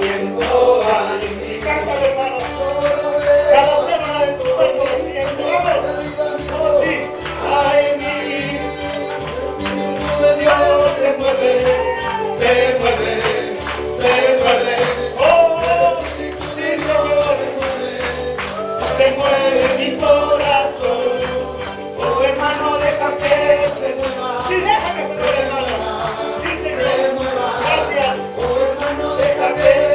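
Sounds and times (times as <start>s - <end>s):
bass: 0.0s - 29.9s
people singing: 0.0s - 29.9s
tambourine rhythm: 0.0s - 29.9s.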